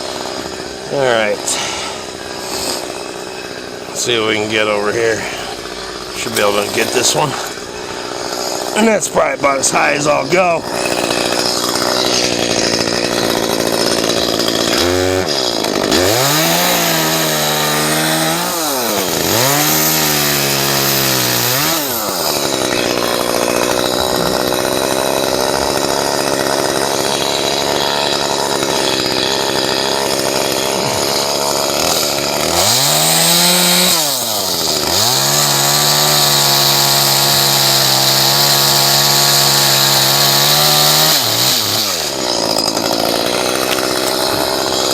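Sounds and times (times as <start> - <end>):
chainsaw cutting tree limbs: 0.0 - 44.9.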